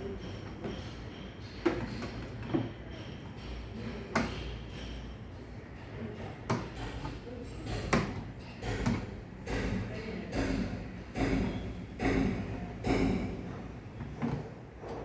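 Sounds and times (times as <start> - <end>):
tools knocking and clicking: 0.0 - 5.1, 6.2 - 14.5.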